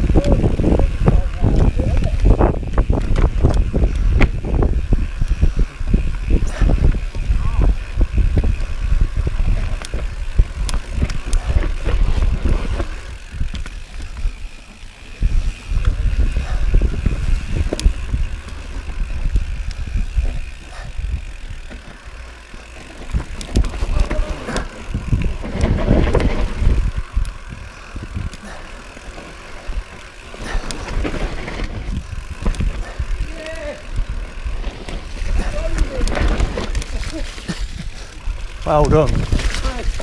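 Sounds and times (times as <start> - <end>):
bike rattling over bumps: 0.0 - 40.0
tyres on dirt: 0.0 - 40.0
wind buffeting microphone: 0.0 - 40.0.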